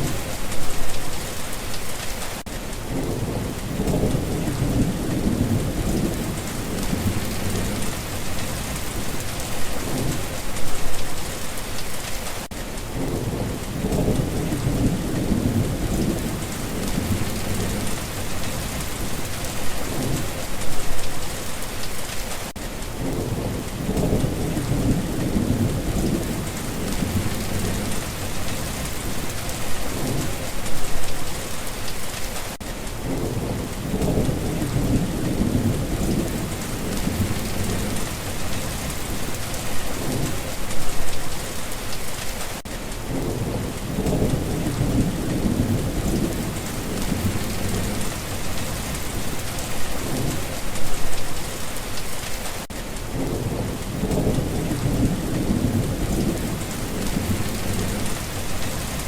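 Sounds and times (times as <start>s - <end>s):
heavy rain hissing: 0.0s - 59.0s
thunder rumbling: 2.8s - 12.0s, 12.9s - 21.6s, 22.9s - 31.5s, 32.9s - 41.8s, 43.0s - 51.8s, 53.0s - 59.0s.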